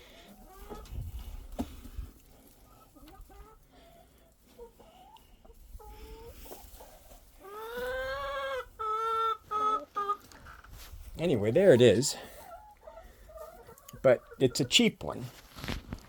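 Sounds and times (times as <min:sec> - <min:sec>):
hens clucking: 0:00.0 - 0:15.3.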